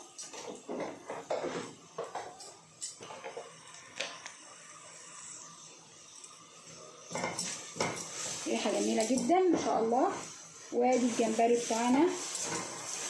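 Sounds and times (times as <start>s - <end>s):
faint hiss from pot: 0.0s - 13.0s.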